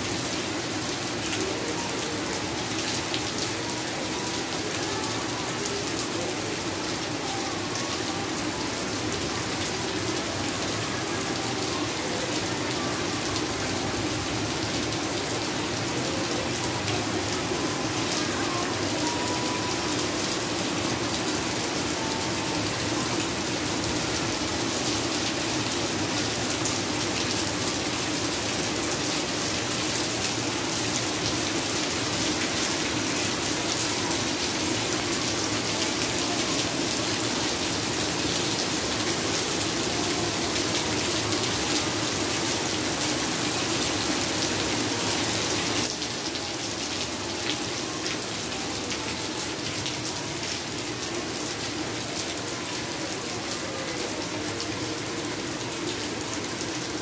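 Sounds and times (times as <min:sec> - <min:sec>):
heavy rain on tiled floor: 0:00.0 - 0:57.0.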